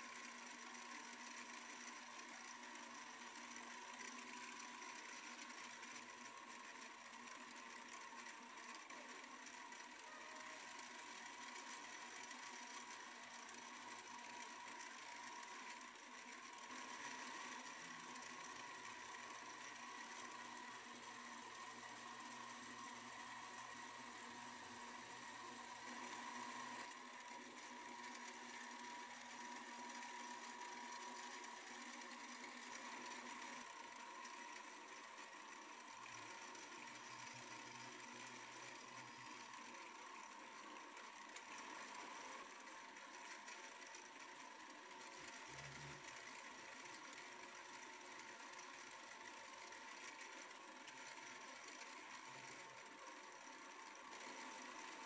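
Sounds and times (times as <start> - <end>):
lathe motor whine: 0.0 - 55.0.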